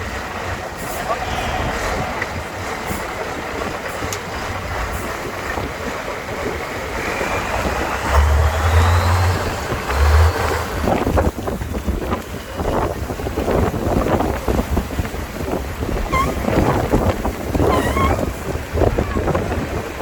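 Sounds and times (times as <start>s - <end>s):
truck engine running hard: 0.0s - 20.0s
wind buffeting microphone: 0.0s - 20.0s.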